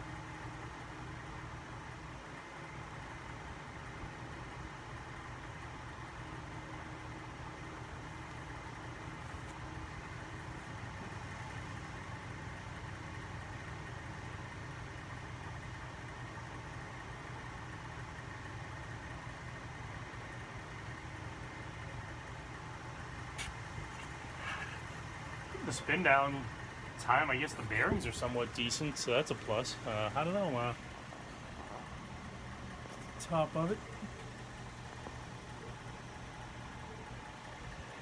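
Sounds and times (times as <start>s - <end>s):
ceiling fan whirring: 0.0s - 38.0s.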